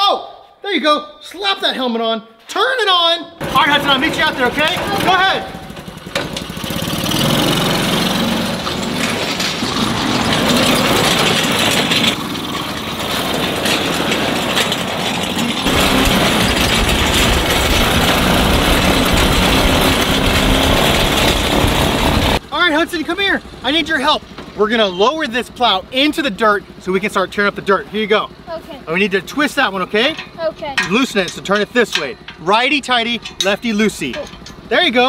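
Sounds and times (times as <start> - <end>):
small gasoline engine running: 3.4 - 32.4.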